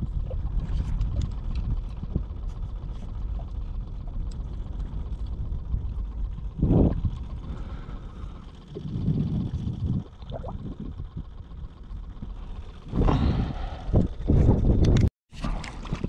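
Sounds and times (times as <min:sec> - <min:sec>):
wind buffeting microphone: 0:00.0 - 0:15.1.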